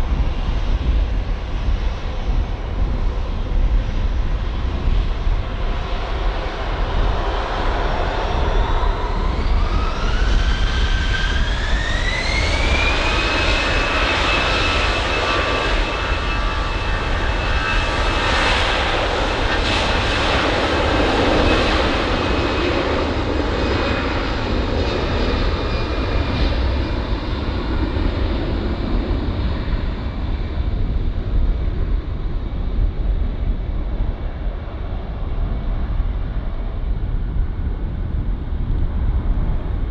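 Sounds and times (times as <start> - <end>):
jet engine roar: 0.0 - 39.9
jet engine whine: 0.0 - 39.9.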